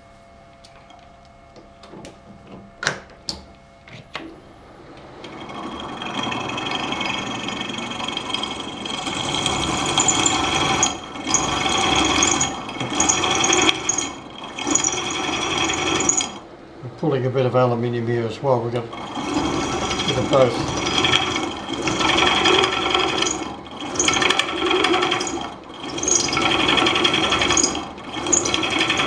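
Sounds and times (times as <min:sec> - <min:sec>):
drill whining cutting metal: 0:03.9 - 0:29.0.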